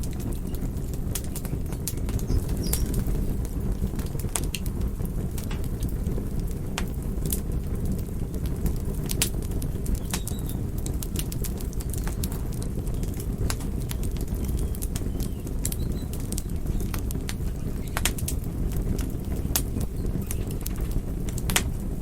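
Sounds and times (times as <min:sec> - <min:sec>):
low roar of flames: 0:00.0 - 0:22.0
sharp pops of fire: 0:00.0 - 0:22.0
wood fire crackling: 0:00.0 - 0:22.0.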